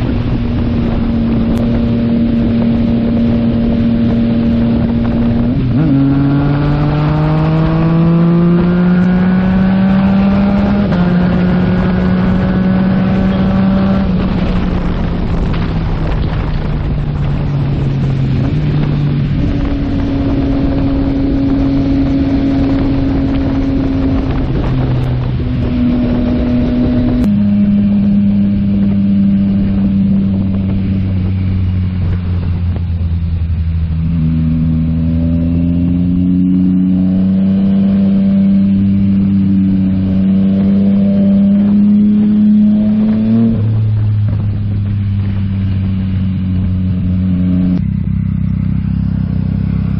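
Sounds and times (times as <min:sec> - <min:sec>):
motorcycle engine while riding: 0:00.0 - 0:49.9
wind rushing over microphone: 0:00.0 - 0:49.9.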